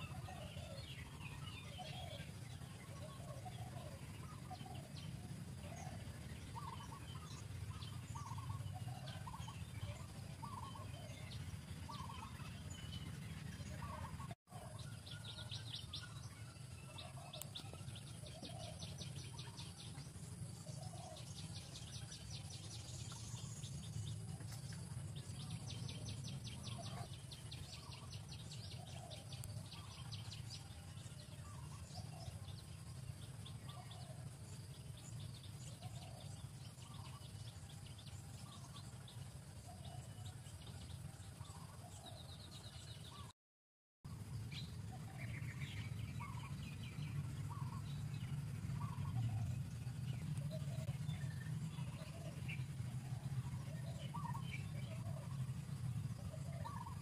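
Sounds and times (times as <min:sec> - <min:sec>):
small birds chirping: 0:00.0 - 0:43.3, 0:44.1 - 0:57.0
steady low hum: 0:00.0 - 0:43.3, 0:44.1 - 0:57.0.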